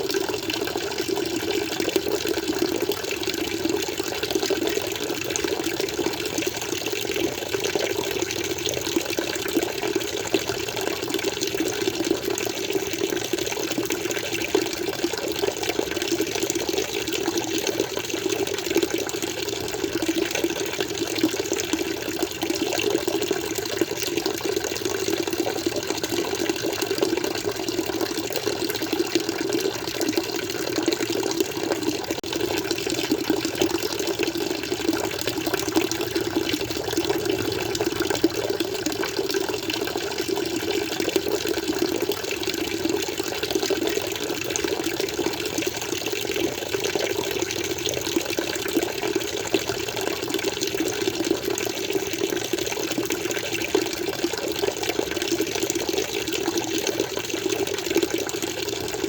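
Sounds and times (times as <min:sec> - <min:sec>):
water flowing and splashing: 0:00.0 - 0:59.0.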